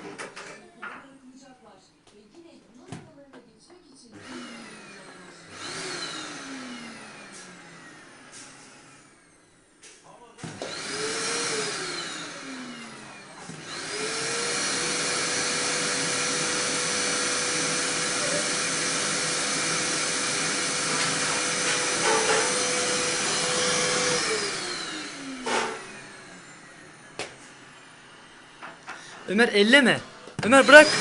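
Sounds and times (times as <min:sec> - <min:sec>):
vacuum cleaner running: 0:04.0 - 0:31.0.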